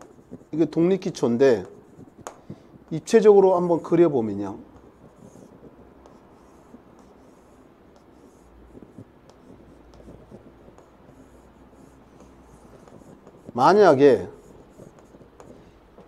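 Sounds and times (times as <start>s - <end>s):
chalk scratching on chalkboard: 0.0s - 16.0s
chalk tapping on board: 0.0s - 16.0s.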